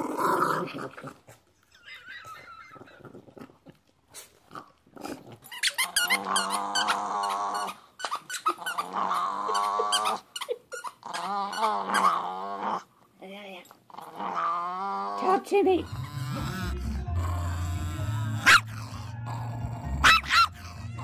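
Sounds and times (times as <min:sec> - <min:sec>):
small dog growling: 0:00.0 - 0:01.4, 0:02.3 - 0:07.8, 0:08.4 - 0:10.2, 0:11.0 - 0:12.9, 0:13.9 - 0:21.0.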